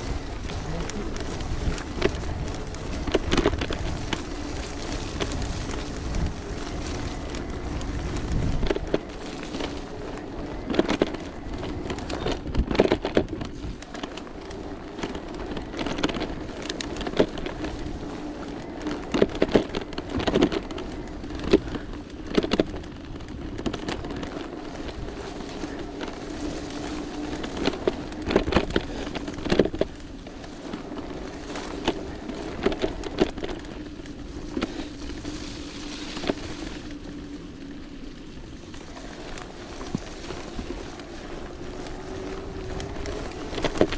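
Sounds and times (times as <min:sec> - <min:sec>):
bike knocking and clattering: 0:00.0 - 0:37.7, 0:38.3 - 0:43.9
bike tyres in mud: 0:00.0 - 0:43.9
wind rumble on microphone: 0:00.0 - 0:43.9.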